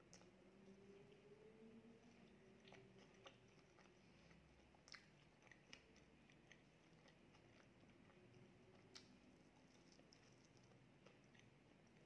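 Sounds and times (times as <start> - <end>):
faint chewing: 0.0 - 12.0.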